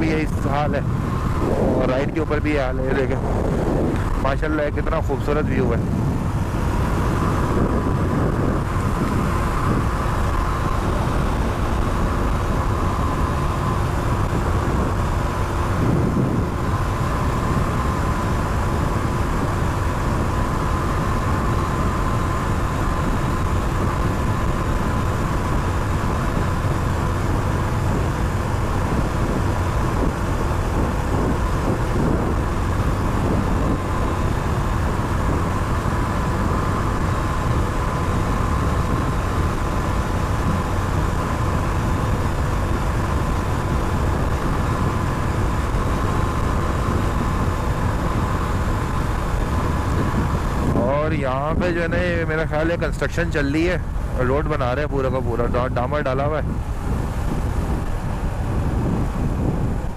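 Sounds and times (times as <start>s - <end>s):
motorcycle engine cruising: 0.0s - 59.9s
thin steady whine: 0.0s - 59.9s
wind and road noise: 0.0s - 59.9s.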